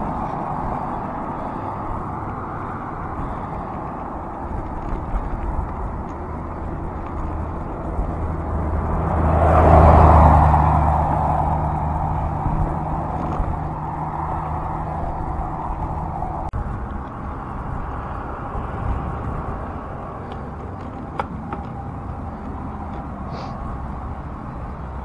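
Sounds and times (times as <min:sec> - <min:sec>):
passing car engine hum: 0:00.0 - 0:25.0
tyre and road noise: 0:00.0 - 0:25.0
wind rushing over microphone: 0:00.0 - 0:25.0.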